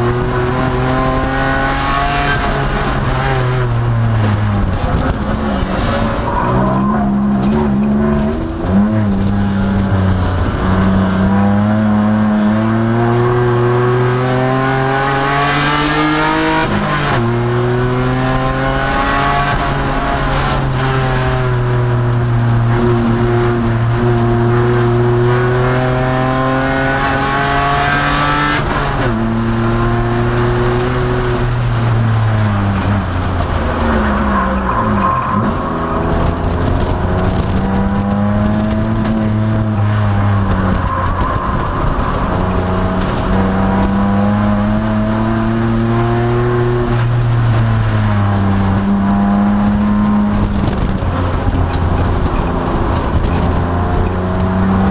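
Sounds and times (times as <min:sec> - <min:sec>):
car engine revving hard: 0:00.0 - 0:54.9.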